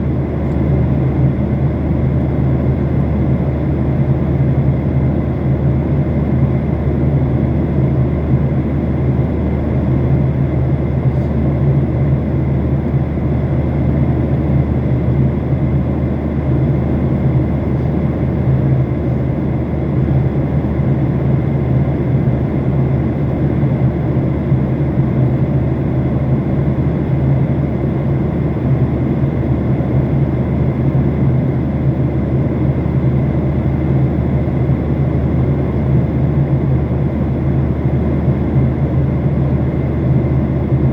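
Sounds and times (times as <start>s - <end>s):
aeroplane cabin drone: 0.0s - 40.9s.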